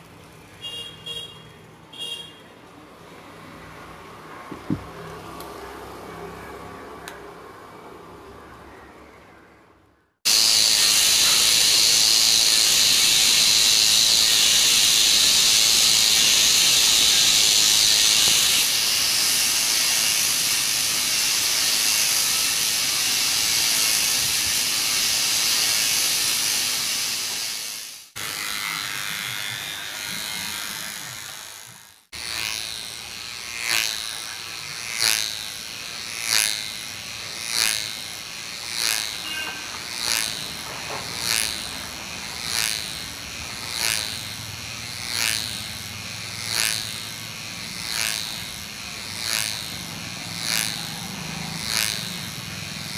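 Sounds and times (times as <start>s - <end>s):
toy airplane motor whirring: 10.3s - 52.9s.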